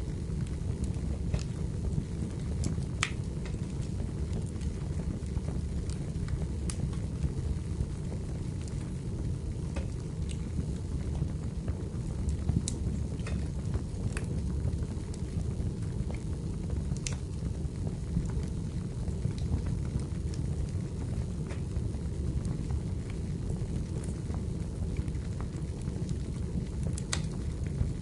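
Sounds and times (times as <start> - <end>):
fire crackling and popping: 0.0 - 28.0
wood fire rumbling: 0.0 - 28.0.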